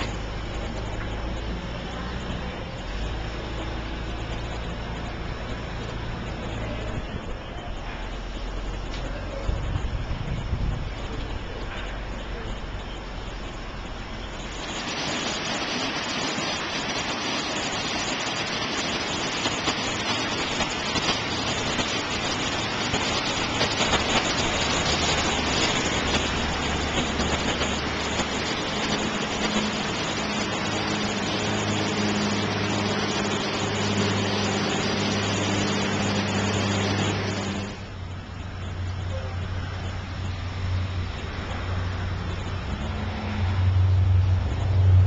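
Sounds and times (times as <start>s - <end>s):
creek water rushing over rocks: 0.0s - 44.8s
low hum: 0.0s - 45.0s.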